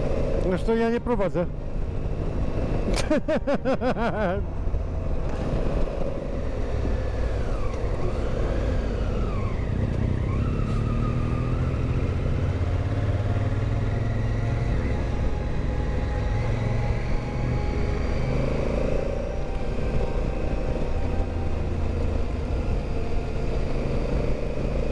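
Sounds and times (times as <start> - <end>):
road noise: 0.0 - 24.9
motorcycle engine rumble: 1.5 - 24.9.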